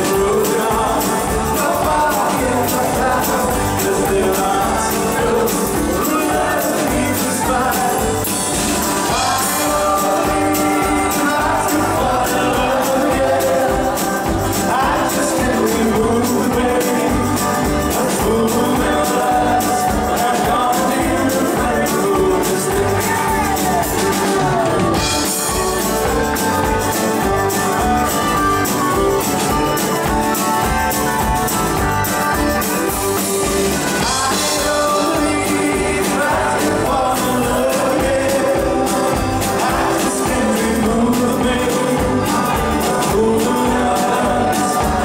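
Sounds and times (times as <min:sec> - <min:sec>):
person singing: 0:00.0 - 0:30.7, 0:32.7 - 0:45.0
accordion: 0:00.0 - 0:45.0
bass guitar: 0:00.0 - 0:45.0
drums: 0:00.0 - 0:45.0
electric and acoustic guitars: 0:00.0 - 0:45.0.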